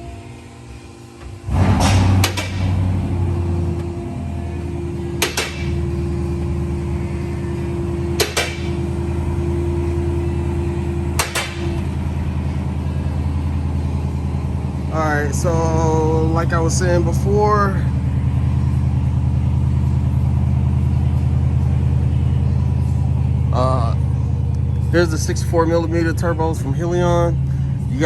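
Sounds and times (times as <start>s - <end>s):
car engine starting and idling: 0.0s - 28.0s.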